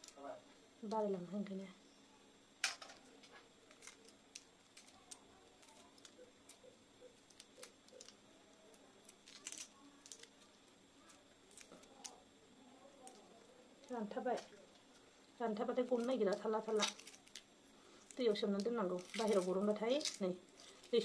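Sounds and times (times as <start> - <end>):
egg shell crackling while peeled: 2.6 - 12.3, 12.9 - 21.0.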